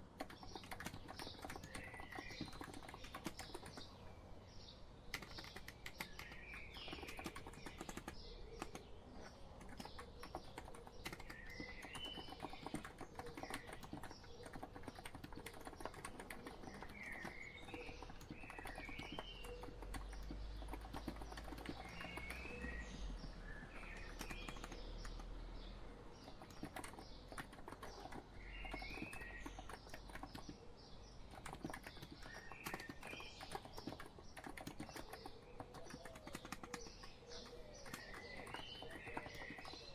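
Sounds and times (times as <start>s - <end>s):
soft keyboard typing: 0.0s - 4.0s, 5.0s - 39.9s
bird song chirps: 0.0s - 39.9s.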